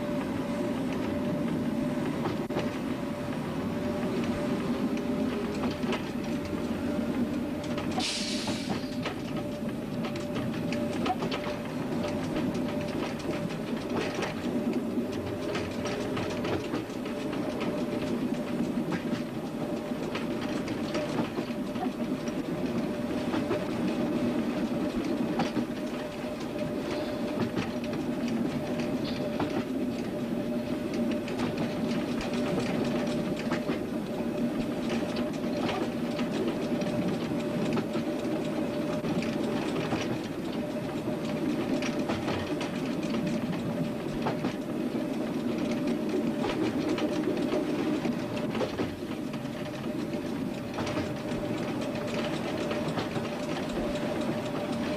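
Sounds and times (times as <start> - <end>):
train rumbling on track: 0.0 - 54.9
wheels clicking over rail joints: 0.0 - 54.9.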